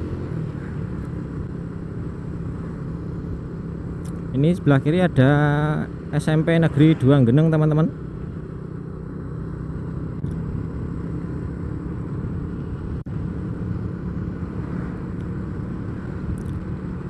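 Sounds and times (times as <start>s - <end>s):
vehicle road and engine rumble: 0.0s - 17.0s.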